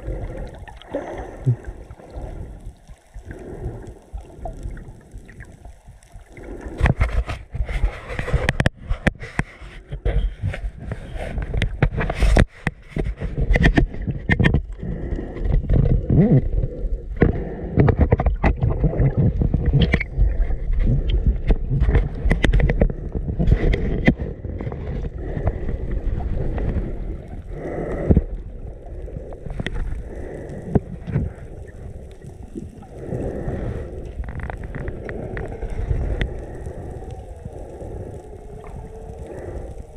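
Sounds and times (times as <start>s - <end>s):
muffled underwater rumble: 0.0s - 39.9s
sharp underwater clicks: 0.0s - 39.9s.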